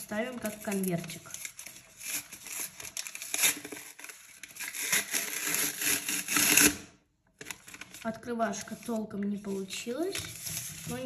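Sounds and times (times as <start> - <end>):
paper crinkling and rustling: 0.0 - 6.8, 7.4 - 11.0.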